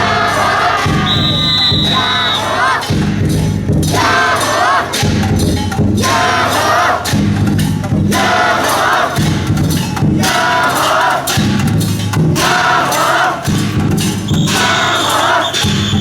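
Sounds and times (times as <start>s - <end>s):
percussion beats: 0.0s - 16.0s
team chanting and shouting: 0.0s - 16.0s.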